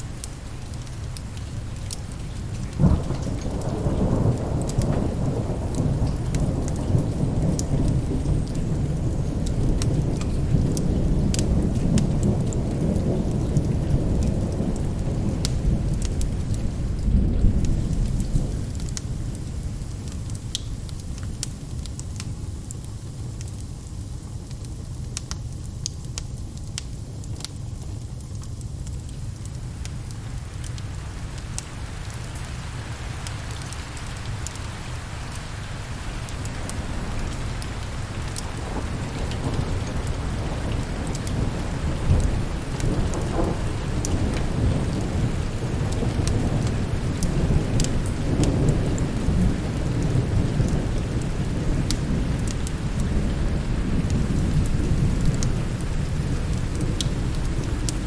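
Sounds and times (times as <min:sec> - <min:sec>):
rolling thunder: 0:00.0 - 0:21.1, 0:31.0 - 0:58.0
sharp crackles and ticks: 0:00.0 - 0:53.3, 0:54.0 - 0:58.0
steady rain: 0:00.0 - 0:58.0.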